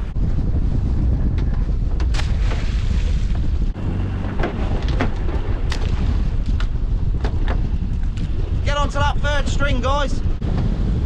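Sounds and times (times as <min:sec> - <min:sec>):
water rushing alongside boat: 0:00.0 - 0:11.0
wind buffeting microphone: 0:00.0 - 0:11.0.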